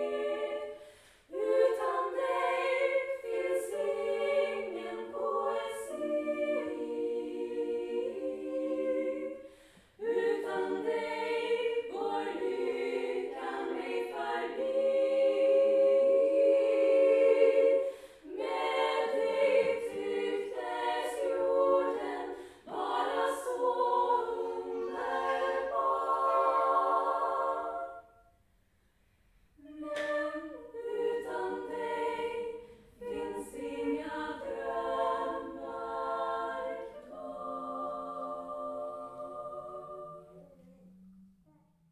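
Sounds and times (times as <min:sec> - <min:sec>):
women's choir singing a cappella: 0:00.0 - 0:28.4, 0:29.6 - 0:40.7.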